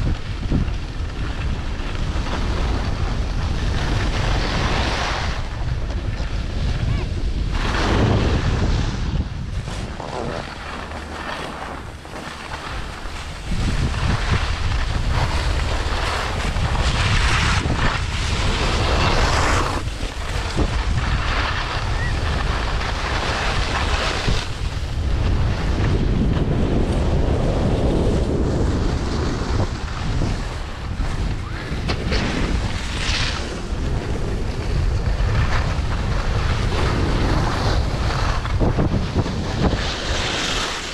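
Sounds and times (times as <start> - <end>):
skis scraping on packed snow: 0.0 - 40.9
wind buffeting microphone: 0.0 - 40.9.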